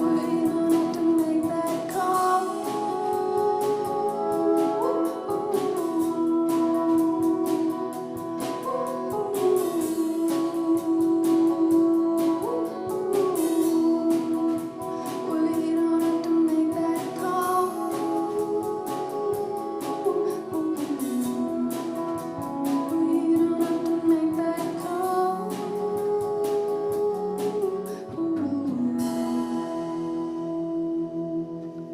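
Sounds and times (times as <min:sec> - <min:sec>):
guitar: 0:00.0 - 0:31.9
person singing: 0:00.0 - 0:31.9.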